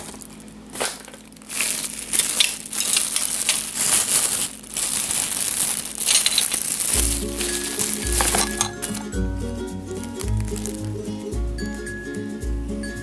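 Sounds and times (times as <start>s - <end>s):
plastic bag crinkling: 0.0s - 9.2s, 9.9s - 11.2s.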